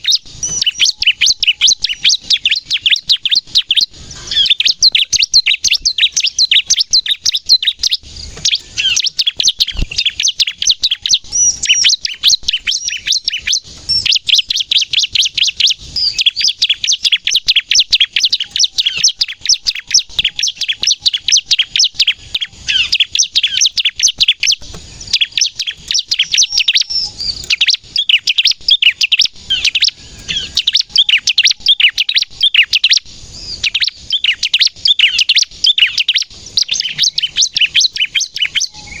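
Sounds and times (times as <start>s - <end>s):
prinia chirping song: 0.0s - 39.0s.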